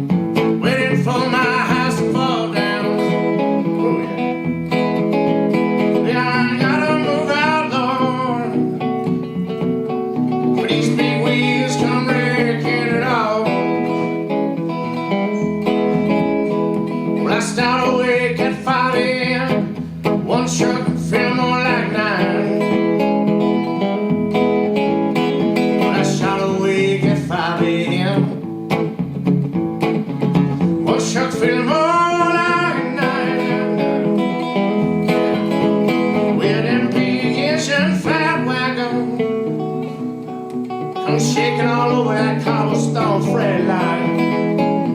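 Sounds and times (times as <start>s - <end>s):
bending guitar melody: 0.0s - 44.9s
blues guitar accompaniment: 0.0s - 44.9s.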